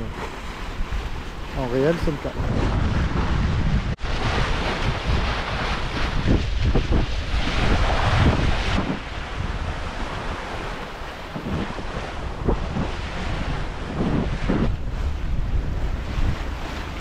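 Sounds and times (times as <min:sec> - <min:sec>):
water splashing along a hull: 0:00.0 - 0:17.0
wind buffeting the microphone: 0:00.0 - 0:17.0.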